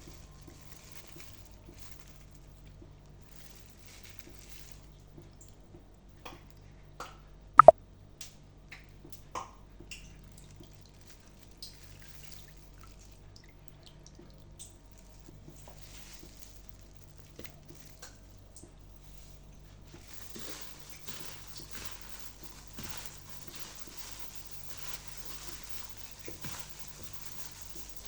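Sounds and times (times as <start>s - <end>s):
small wet clicks and drips: 0.0s - 28.0s.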